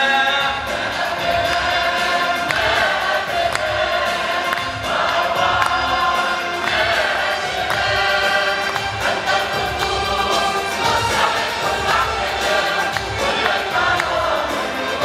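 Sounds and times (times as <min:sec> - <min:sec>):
church choir singing a hymn: 0:00.0 - 0:15.0.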